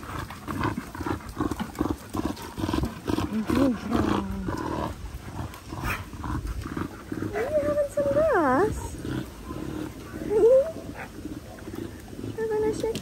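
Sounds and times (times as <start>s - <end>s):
dogs play-growling: 0.0s - 13.0s.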